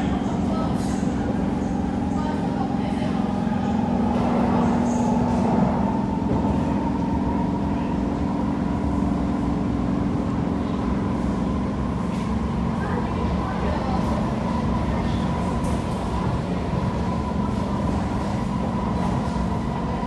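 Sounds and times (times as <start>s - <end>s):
train interior hum: 0.0s - 20.0s
wheels rumbling on rails: 0.0s - 20.0s.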